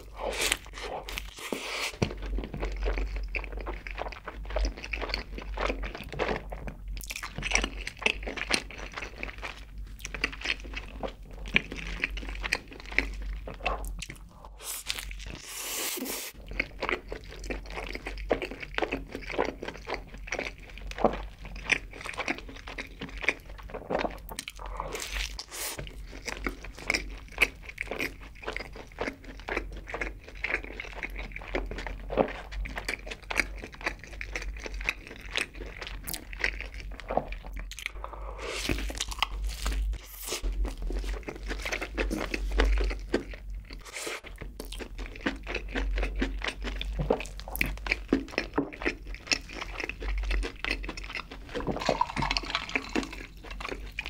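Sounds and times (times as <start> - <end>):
person biting and chewing: 0.0 - 8.9, 10.0 - 54.0.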